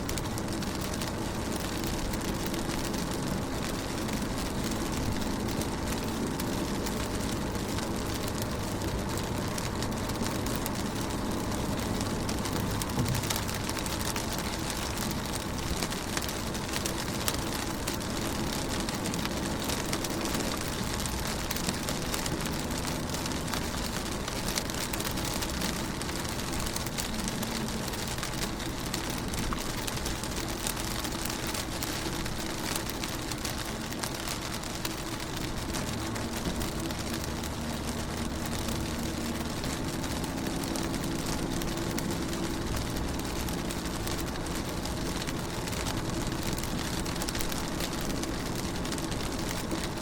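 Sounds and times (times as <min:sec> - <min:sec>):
rain on a car window: 0:00.0 - 0:50.0.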